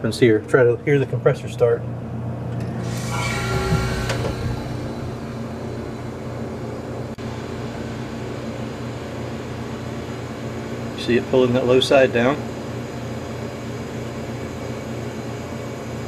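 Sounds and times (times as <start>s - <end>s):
refrigerator compressor humming: 0.0s - 16.0s.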